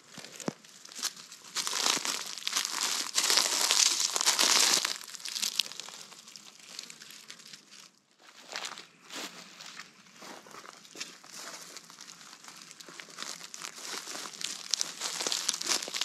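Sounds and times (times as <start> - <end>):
dry leaves crunching: 0.0 - 9.8, 10.5 - 16.0.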